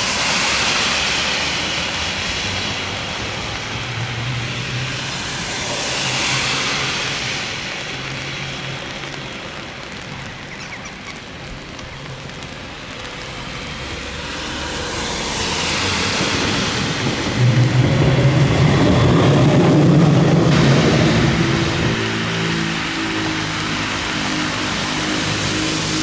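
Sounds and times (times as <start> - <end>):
tram passing: 0.0 - 26.0.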